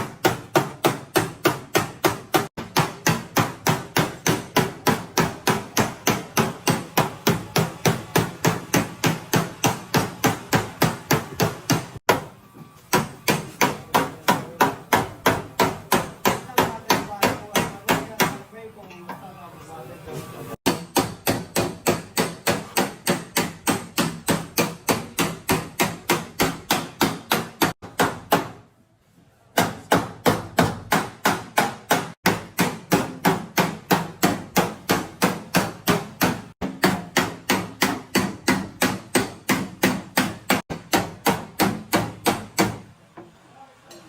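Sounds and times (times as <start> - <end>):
hammer blows on sheet metal: 0.0 - 18.5, 20.6 - 28.7, 29.5 - 42.9.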